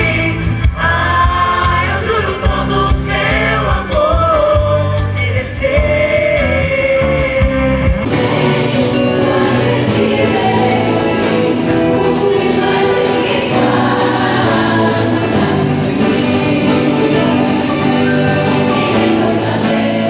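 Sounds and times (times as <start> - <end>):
choir singing: 0.0 - 20.0
musical accompaniment: 0.0 - 20.0.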